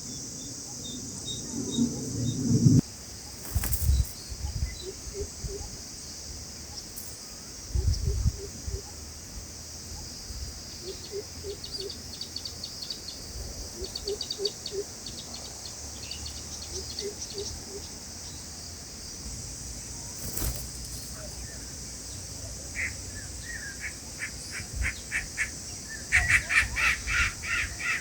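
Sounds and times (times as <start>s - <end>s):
high insect drone: 0.0s - 28.0s
rapid ticking insect calls: 0.0s - 28.0s.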